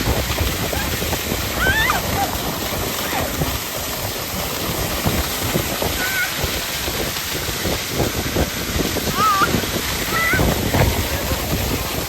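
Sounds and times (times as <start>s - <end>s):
waterfall splashing onto rocks: 0.0s - 12.0s.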